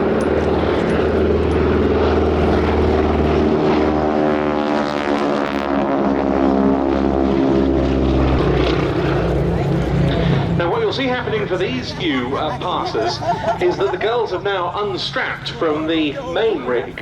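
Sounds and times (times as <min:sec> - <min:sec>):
biplanes flying by: 0:00.0 - 0:17.0.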